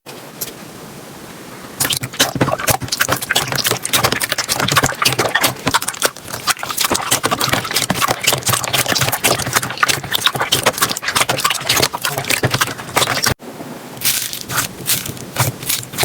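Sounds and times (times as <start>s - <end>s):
slime squished by hand: 1.8s - 13.4s, 14.0s - 16.0s.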